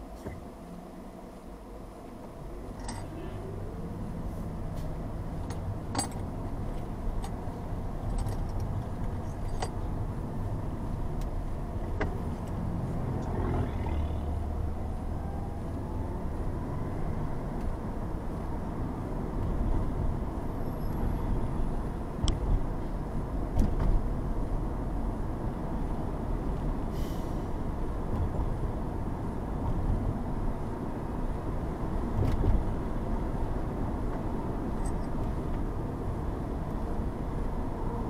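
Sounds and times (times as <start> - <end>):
engine and tyre rumble: 0.0 - 38.0.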